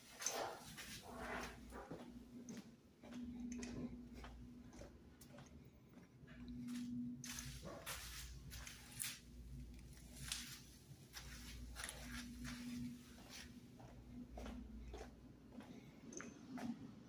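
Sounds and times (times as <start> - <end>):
footsteps on hard floor: 0.0 - 9.2, 10.0 - 15.8
faint low hum: 0.0 - 17.0.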